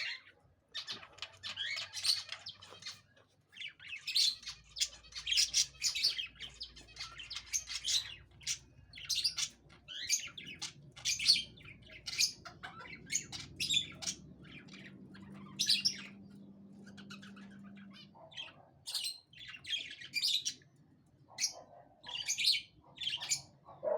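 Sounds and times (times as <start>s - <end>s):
budgerigars chirping: 0.0s - 20.7s, 21.3s - 23.9s.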